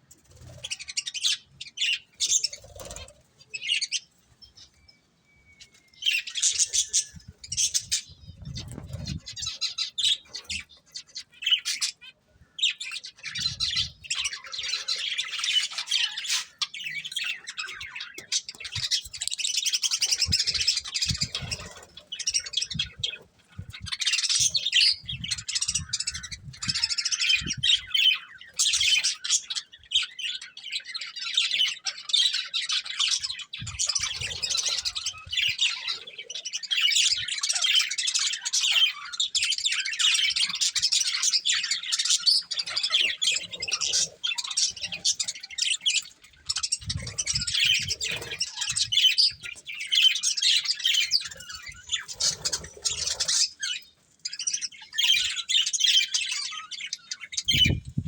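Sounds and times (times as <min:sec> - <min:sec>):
budgerigars chattering and warbling: 0:00.2 - 0:04.8, 0:05.6 - 0:58.0.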